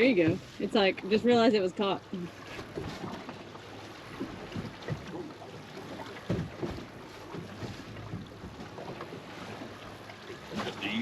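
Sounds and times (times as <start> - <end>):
water lapping against boat hull: 0.0 - 11.0
wind and sea wash: 0.0 - 11.0.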